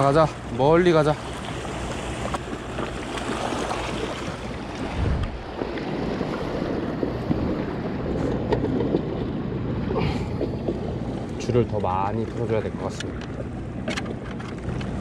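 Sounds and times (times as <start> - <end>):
sea washing at shoreline: 0.0 - 15.0
wind buffeting microphone: 0.0 - 15.0.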